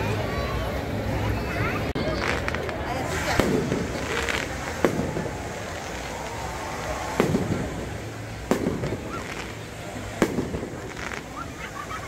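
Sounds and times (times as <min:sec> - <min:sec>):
fireworks bangs with echo: 0:02.0 - 0:12.0.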